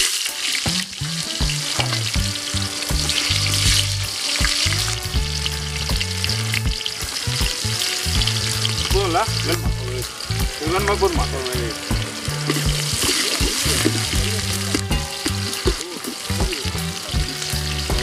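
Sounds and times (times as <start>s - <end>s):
background music bass notes: 0.0s - 18.0s
onions sizzling in hot oil: 0.0s - 18.0s.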